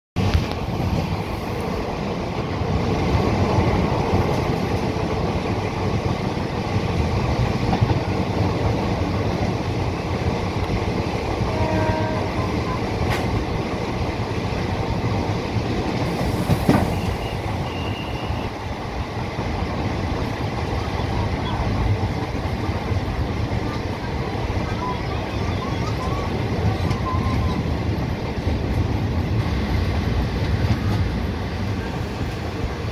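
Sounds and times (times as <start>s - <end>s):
train wheels rumbling on rail: 0.2s - 32.9s.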